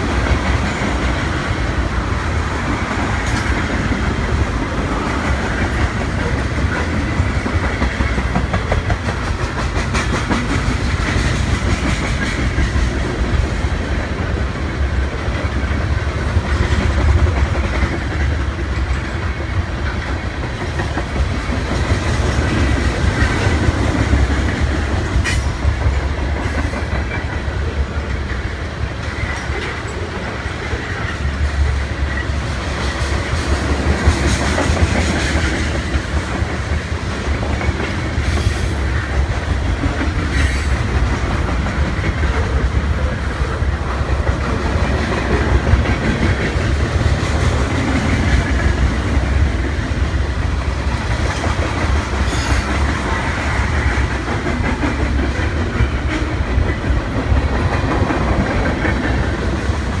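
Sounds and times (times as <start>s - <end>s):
freight wagons rumbling on rails: 0.0s - 60.0s
wheels clacking over rail joints: 0.0s - 60.0s.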